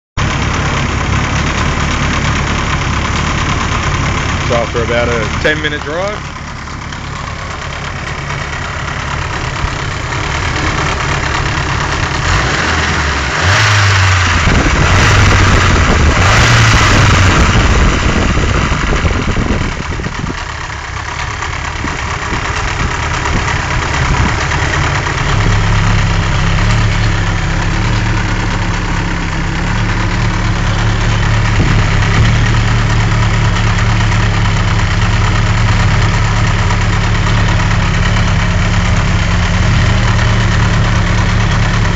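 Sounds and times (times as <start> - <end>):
engine running with knock: 0.2 - 41.9.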